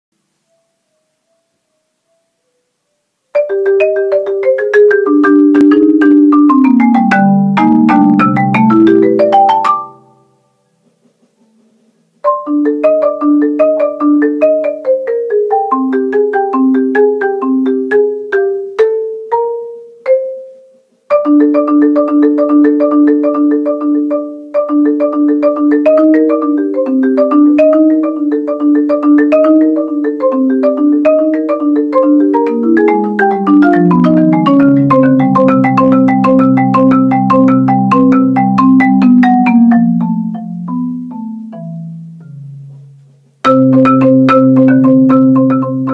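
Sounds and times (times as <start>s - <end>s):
solo marimba: 3.3s - 10.4s, 12.2s - 45.9s.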